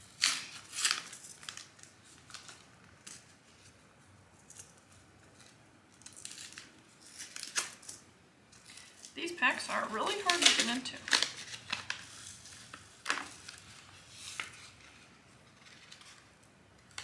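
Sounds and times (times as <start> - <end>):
paper packet crinkling and tearing: 0.0 - 3.8, 4.5 - 17.0.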